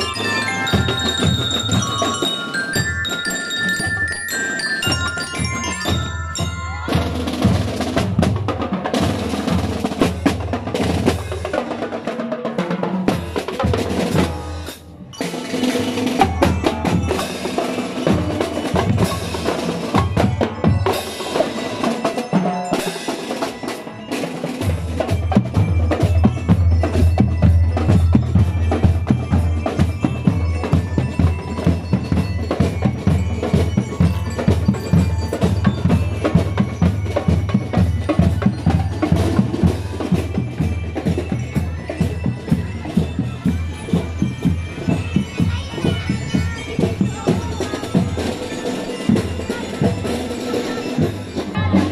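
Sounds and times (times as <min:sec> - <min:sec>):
bell lyres ringing a melody: 0:00.0 - 0:51.9
snare and tenor drums: 0:00.0 - 0:51.9.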